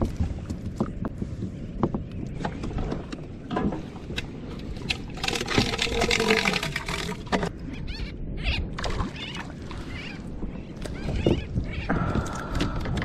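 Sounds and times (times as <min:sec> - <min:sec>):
water splashing against hull: 0:00.0 - 0:07.8, 0:08.6 - 0:13.0.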